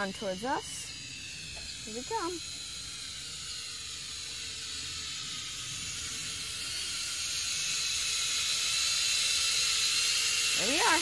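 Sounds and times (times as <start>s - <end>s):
toy drone propellers whining: 0.0s - 11.0s.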